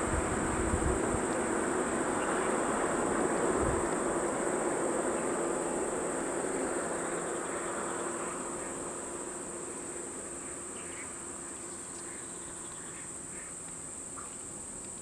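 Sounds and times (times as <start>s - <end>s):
insects singing: 0.0s - 15.0s.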